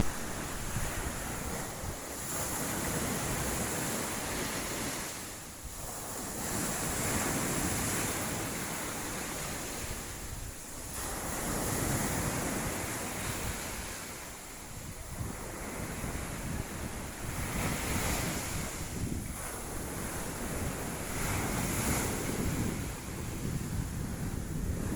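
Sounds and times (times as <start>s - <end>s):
sea waves washing onto beach: 0.0s - 24.9s
wind buffeting microphone: 0.0s - 24.9s.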